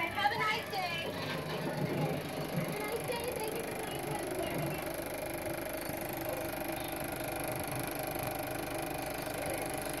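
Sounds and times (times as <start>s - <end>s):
film projector running: 0.0s - 10.0s.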